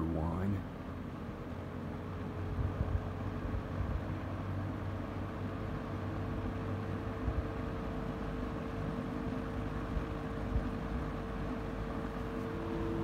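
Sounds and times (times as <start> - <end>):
box fan running: 0.0 - 13.0.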